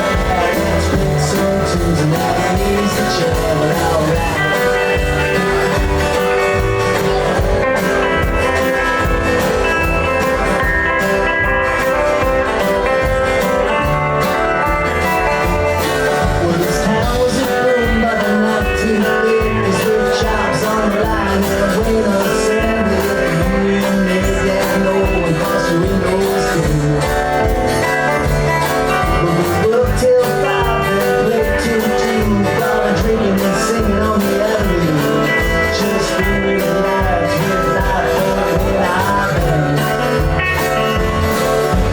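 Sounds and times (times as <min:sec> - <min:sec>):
live band playing rock song: 0:00.0 - 0:41.9.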